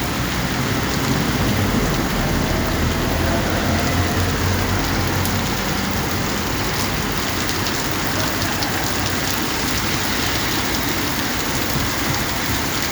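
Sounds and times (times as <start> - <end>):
heavy rain on hard surfaces: 0.0 - 12.9.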